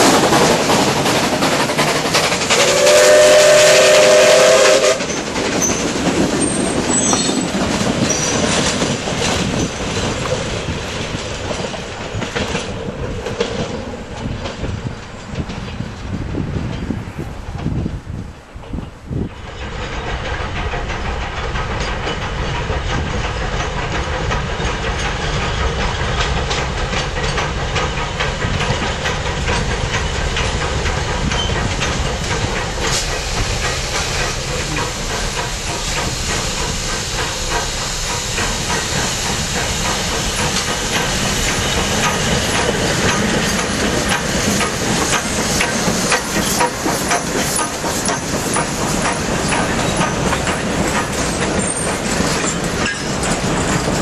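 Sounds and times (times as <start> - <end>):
steam locomotive hissing: 0.0 - 54.0
train wheels clicking over rail joints: 0.0 - 54.0.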